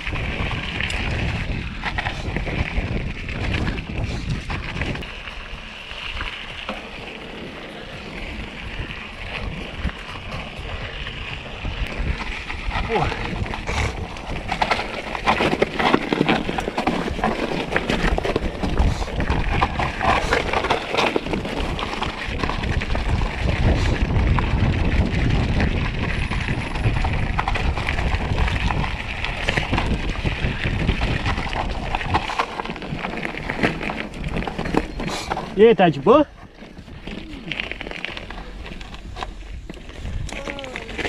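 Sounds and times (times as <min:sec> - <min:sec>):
wind buffeting microphone: 0:00.0 - 0:06.7, 0:07.8 - 0:41.0
bike rattling over rocks: 0:00.0 - 0:41.0
bike tyres crunching on stones: 0:00.0 - 0:41.0.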